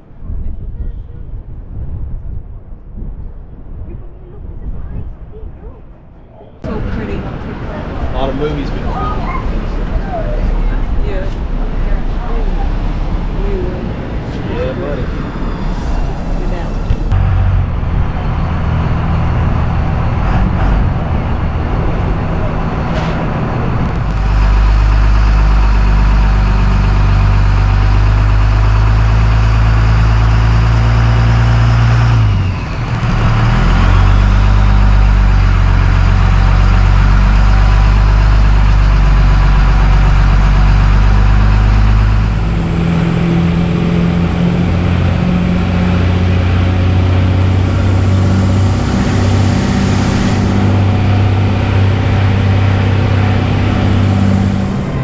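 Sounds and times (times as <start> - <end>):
road noise: 0.0 - 55.0
vehicle engine drone: 4.2 - 55.0.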